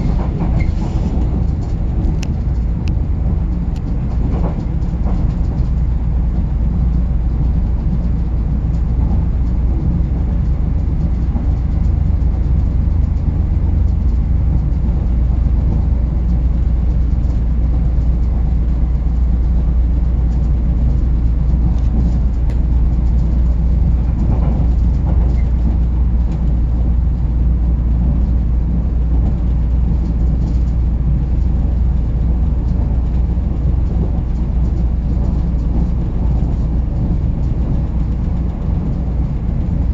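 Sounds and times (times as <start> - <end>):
electric train rumbling on track: 0.0 - 39.9.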